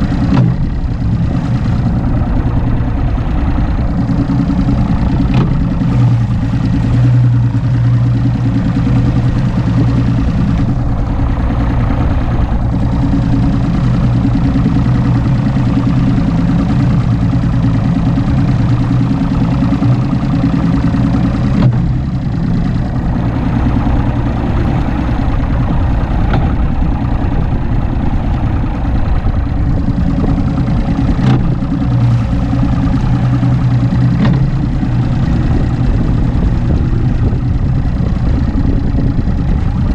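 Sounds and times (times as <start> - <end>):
outboard motor droning: 0.0 - 39.9
wind and water rushing: 0.0 - 39.9.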